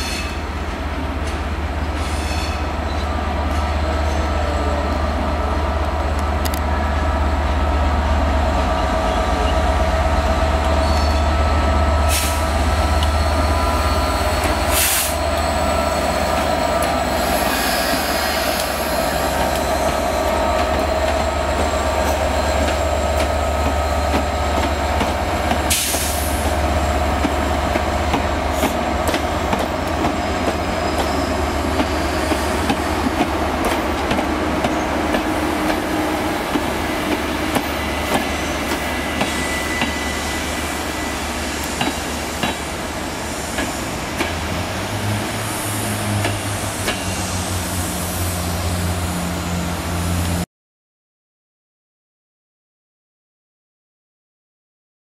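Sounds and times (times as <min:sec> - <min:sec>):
diesel locomotive engine drone: 0:00.0 - 0:50.5.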